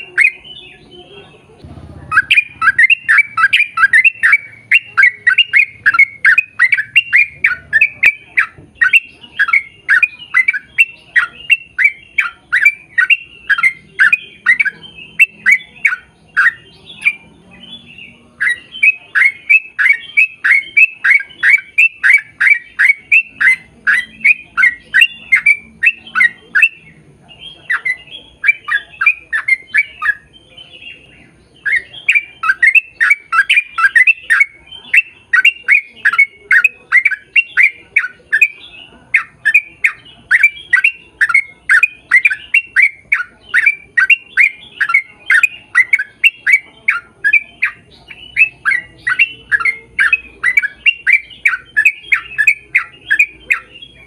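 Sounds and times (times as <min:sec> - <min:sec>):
bird calling in sharp notes: 0:00.0 - 0:54.0.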